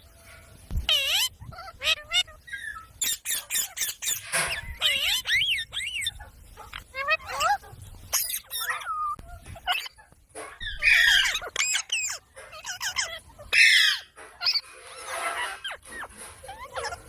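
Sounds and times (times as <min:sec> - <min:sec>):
parrot squawking: 0:00.9 - 0:17.0.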